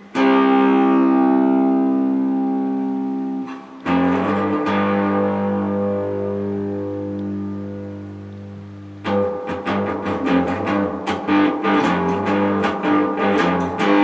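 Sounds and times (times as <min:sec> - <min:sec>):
guitar strumming: 0:00.0 - 0:14.0.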